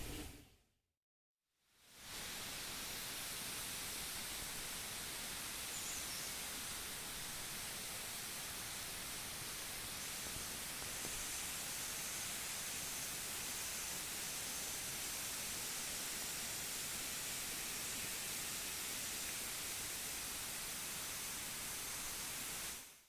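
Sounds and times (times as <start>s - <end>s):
forest ambience hiss: 1.8s - 23.0s.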